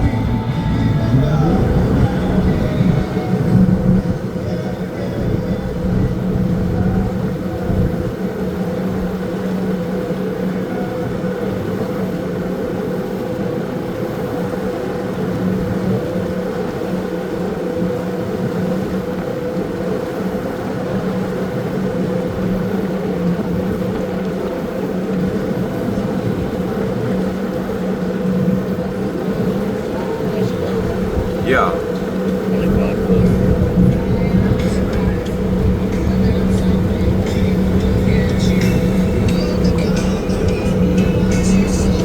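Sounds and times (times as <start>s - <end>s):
motorboat engine droning: 0.0s - 42.0s.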